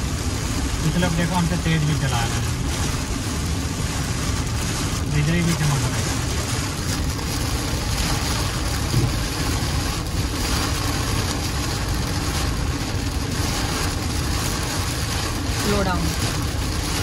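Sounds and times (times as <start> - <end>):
heavy rain on car: 0.0 - 17.0.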